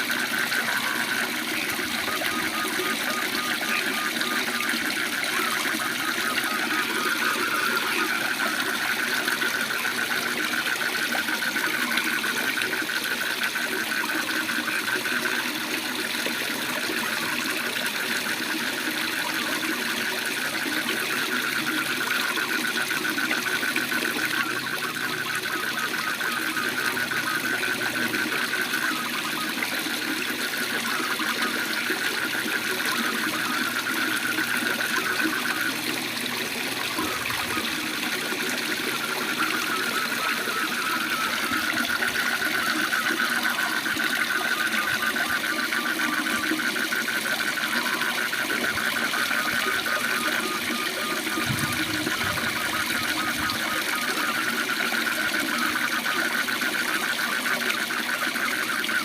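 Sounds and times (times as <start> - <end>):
frogs trilling: 0.0 - 59.0.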